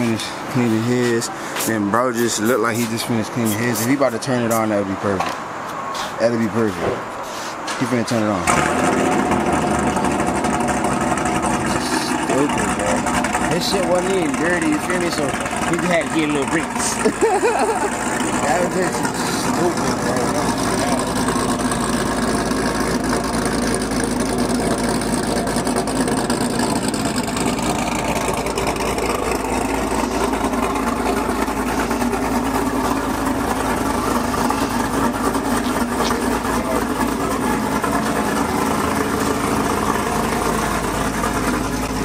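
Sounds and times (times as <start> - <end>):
car engine idling: 8.0 - 42.0.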